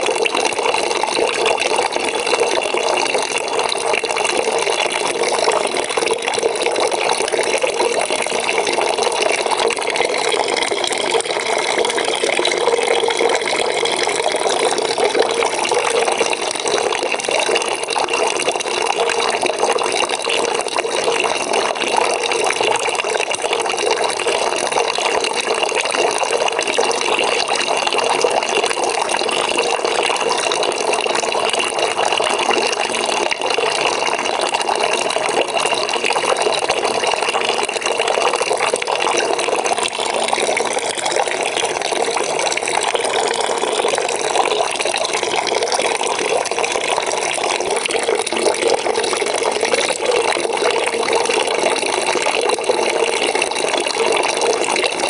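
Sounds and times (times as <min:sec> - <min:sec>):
tap water filling bucket: 0:00.0 - 0:55.0.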